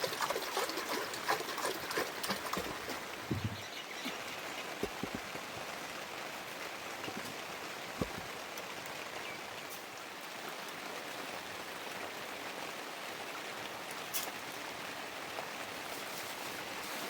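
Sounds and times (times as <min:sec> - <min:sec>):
heavy rain falling: 0:03.0 - 0:17.0.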